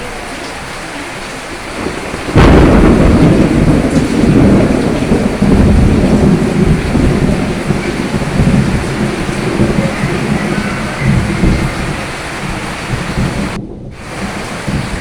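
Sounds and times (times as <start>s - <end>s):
heavy rain: 0.0s - 15.0s
thunderclap rumbling: 0.0s - 15.0s.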